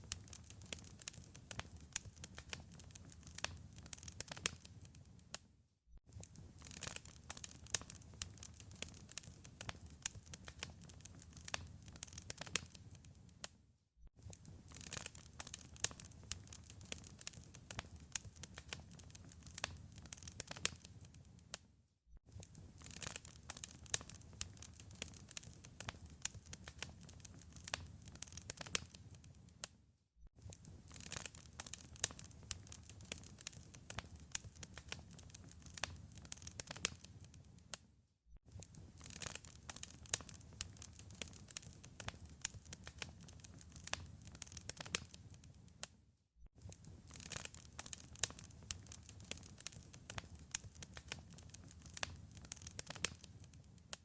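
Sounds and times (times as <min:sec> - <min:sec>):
wood fire crackling: 0:00.0 - 0:05.3, 0:06.1 - 0:13.5, 0:14.2 - 0:21.6, 0:22.3 - 0:29.7, 0:30.4 - 0:37.8, 0:38.5 - 0:45.8, 0:46.6 - 0:54.0.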